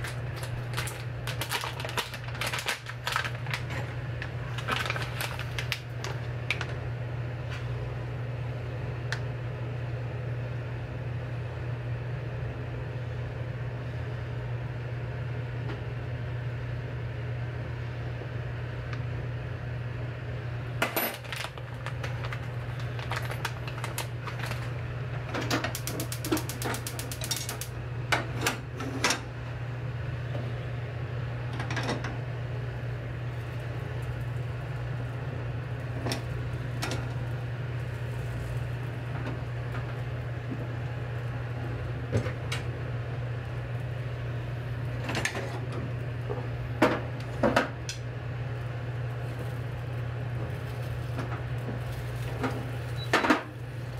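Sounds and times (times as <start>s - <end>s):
kitchen appliance humming: 0.0s - 53.9s.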